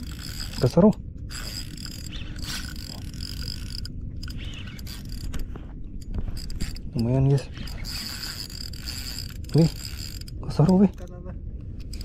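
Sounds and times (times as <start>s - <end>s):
fishing reel whirring: 0.0s - 11.0s, 11.8s - 12.0s.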